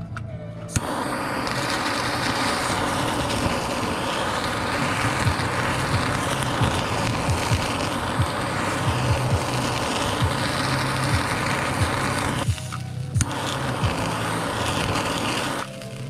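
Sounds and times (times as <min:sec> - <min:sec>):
butane torch hissing: 0:00.7 - 0:16.0.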